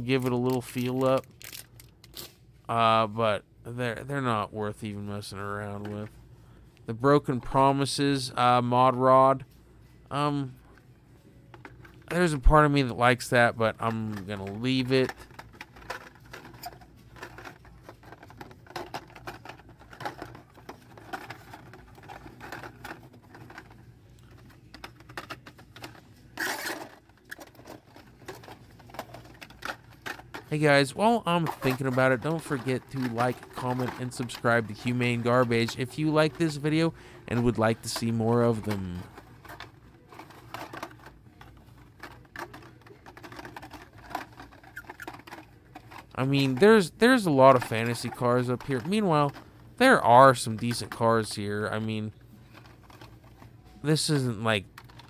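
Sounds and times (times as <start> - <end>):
plastic packs clicking and rustling: 0.0 - 2.3, 11.5 - 55.0.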